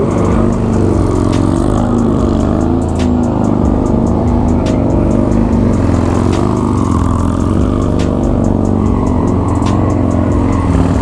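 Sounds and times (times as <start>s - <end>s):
motorcycle engines running: 0.0s - 11.0s
music with steady beat: 0.0s - 11.0s.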